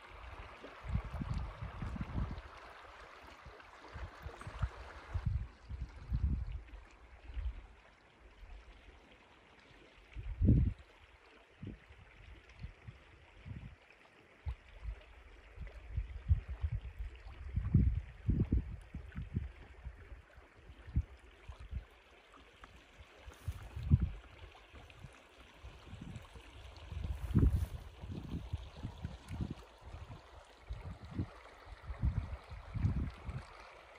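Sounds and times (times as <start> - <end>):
shallow river water running: 0.0 - 33.9.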